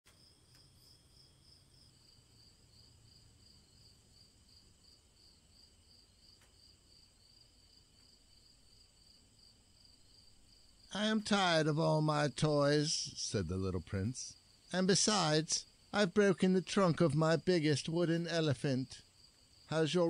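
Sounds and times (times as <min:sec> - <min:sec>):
crickets chirping faintly: 0:00.1 - 0:20.0.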